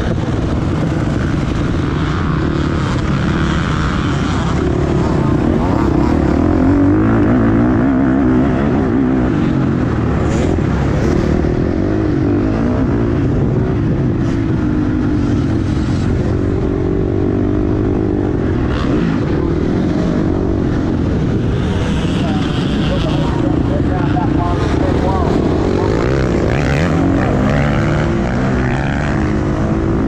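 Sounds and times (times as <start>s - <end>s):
motocross bike engine accelerating: 0.0s - 30.0s.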